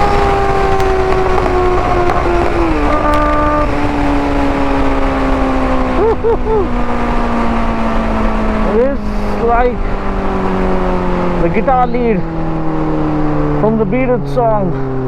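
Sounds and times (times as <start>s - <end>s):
motorcycle engine at high revs: 0.0s - 15.0s
wind noise: 0.0s - 15.0s.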